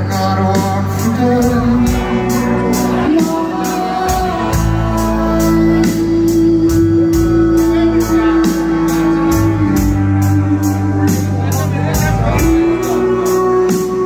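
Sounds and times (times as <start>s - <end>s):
live rock band playing: 0.0s - 14.0s
steady drum beat: 0.0s - 14.0s.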